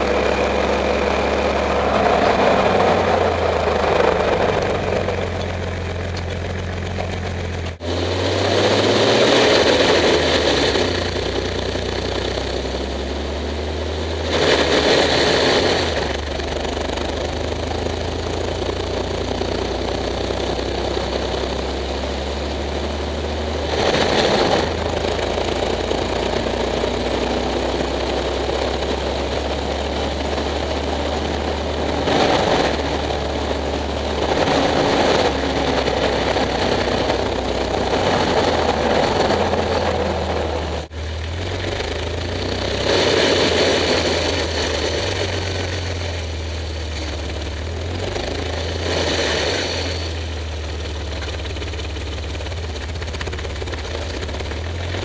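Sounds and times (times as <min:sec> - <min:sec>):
drivetrain running hum: 0:00.0 - 0:55.0.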